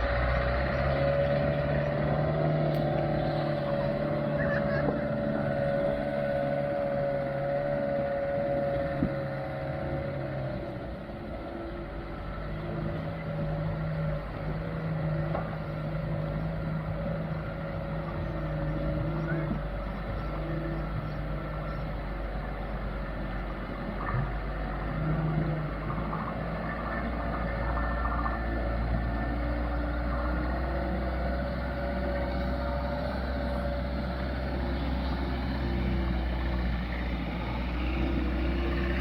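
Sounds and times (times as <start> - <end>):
truck engine running unevenly: 0.0 - 39.0.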